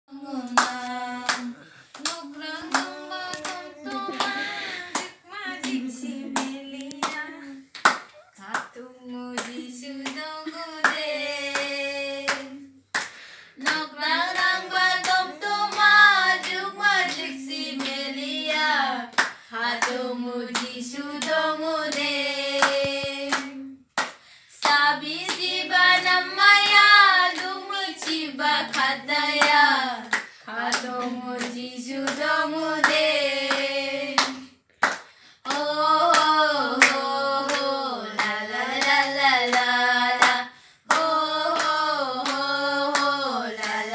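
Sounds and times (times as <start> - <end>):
girls singing together: 0.1 - 13.0, 13.6 - 43.9
hand claps: 0.5 - 8.8, 9.4 - 20.0, 22.6 - 43.8.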